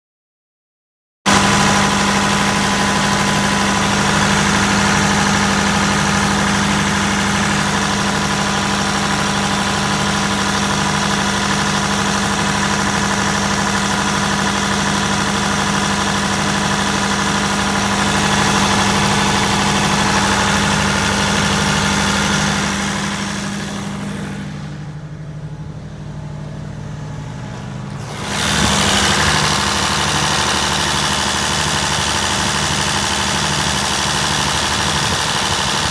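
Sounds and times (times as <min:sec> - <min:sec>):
generator diesel engine humming: 0:01.3 - 0:35.9.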